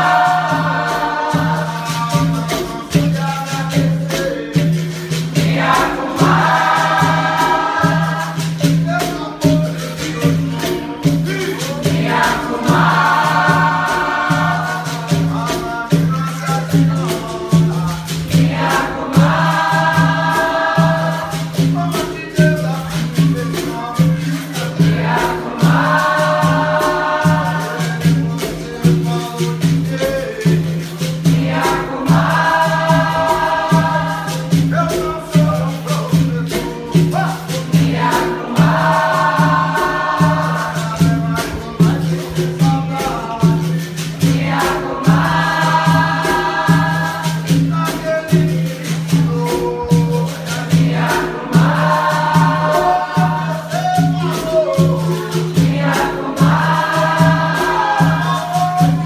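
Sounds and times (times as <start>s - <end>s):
berimbaus and pandeiros rhythm: 0.0s - 59.0s
group singing: 0.0s - 59.0s.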